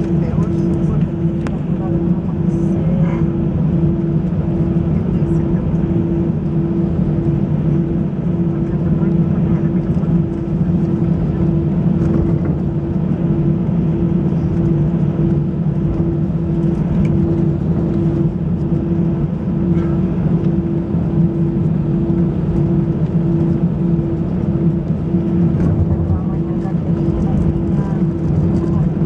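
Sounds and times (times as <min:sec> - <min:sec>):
aircraft cabin engine rumble: 0:00.0 - 0:29.0
pulsing hum: 0:00.0 - 0:29.0.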